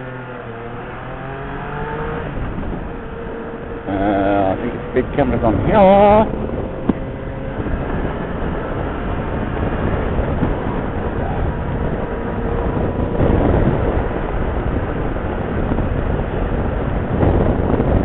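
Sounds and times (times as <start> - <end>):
motorcycle engine: 0.0 - 18.0
road noise: 0.0 - 18.0
wind rushing over microphone: 0.0 - 18.0.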